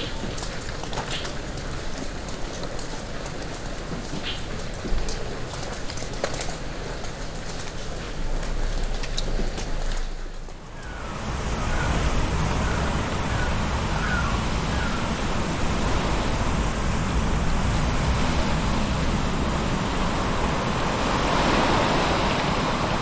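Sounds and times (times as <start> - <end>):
sea surf washing over rocks: 0.0 - 23.0.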